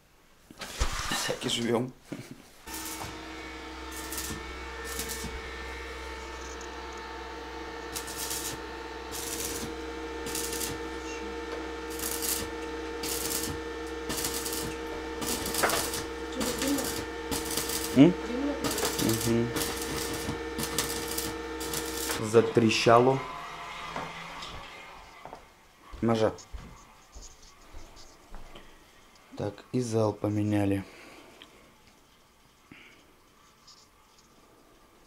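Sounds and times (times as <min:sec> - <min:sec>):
electrical hum: 0:00.0 - 0:35.0
arc welding crackling hiss: 0:00.5 - 0:01.7, 0:02.4 - 0:34.4.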